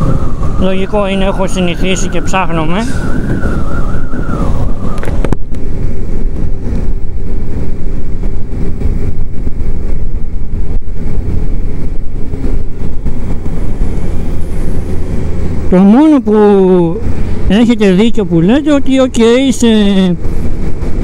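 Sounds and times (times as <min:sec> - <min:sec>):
high whine: 0:00.0 - 0:21.0
road noise: 0:00.0 - 0:21.0
wind buffeting microphone: 0:00.0 - 0:21.0.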